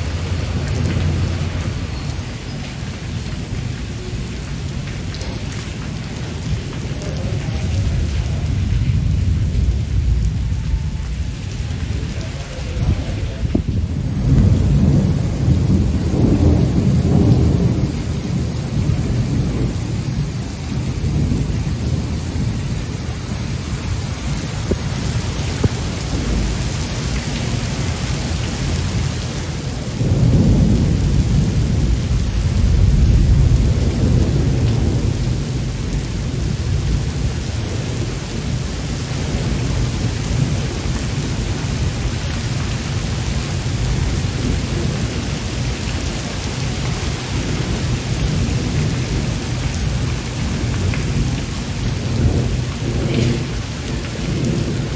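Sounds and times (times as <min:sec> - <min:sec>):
deep rolling thunder: 0:00.0 - 0:54.9
heavy rain pouring: 0:00.0 - 0:54.9.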